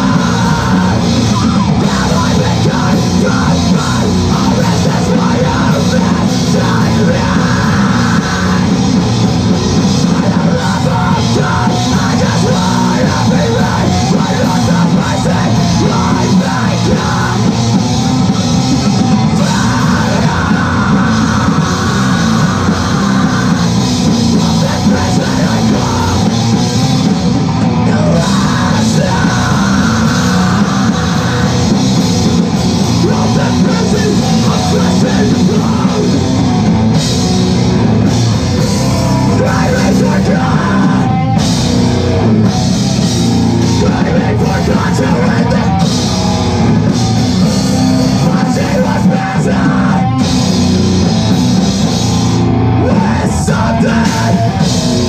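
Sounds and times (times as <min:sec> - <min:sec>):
distorted electric guitar: 0:00.0 - 0:55.0
pounding drum kit: 0:00.0 - 0:55.0.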